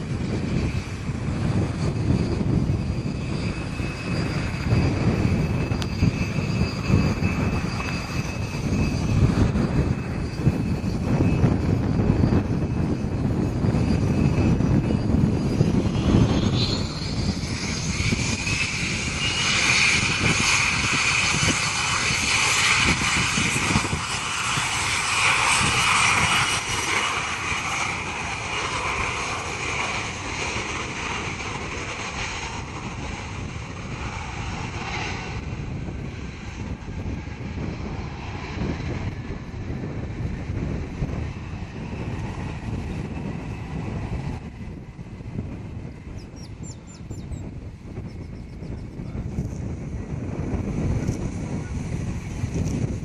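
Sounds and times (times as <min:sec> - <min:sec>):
airliner engines passing: 0:00.0 - 0:53.0
wind rumble on microphone: 0:00.0 - 0:53.0.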